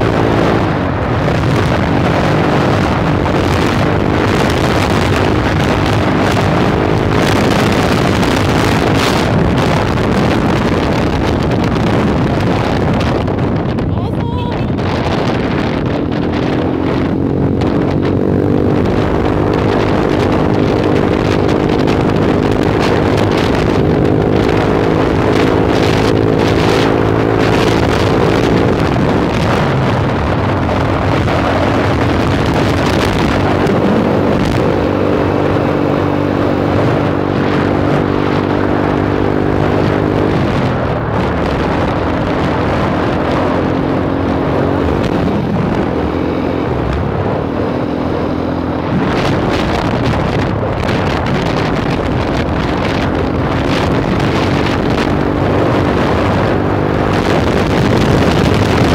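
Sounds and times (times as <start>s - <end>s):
small motorcycle engine cruising: 0.0s - 58.9s
wind rushing over microphone: 0.0s - 58.9s.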